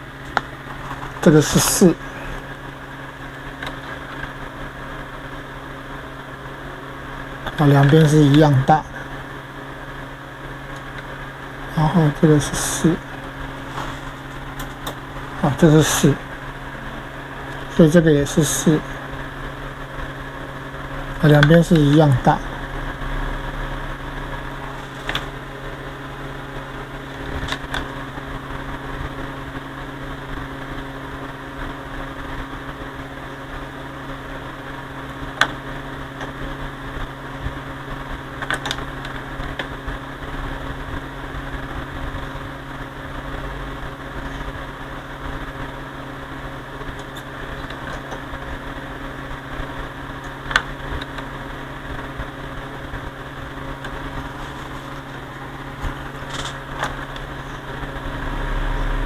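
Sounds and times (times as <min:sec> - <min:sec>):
electronic equipment hum: 0:00.0 - 0:59.0.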